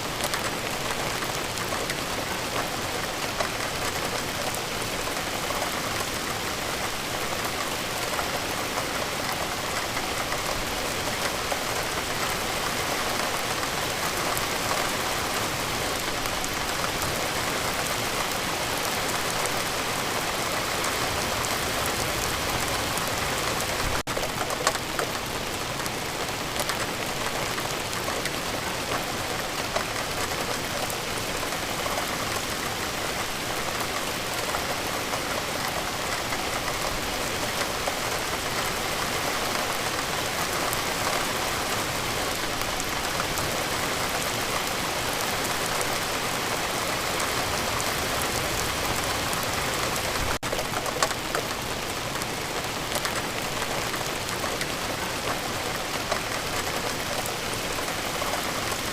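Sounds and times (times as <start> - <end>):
raindrops pattering on a surface: 0.0 - 58.9
steady rain hiss: 0.0 - 58.9.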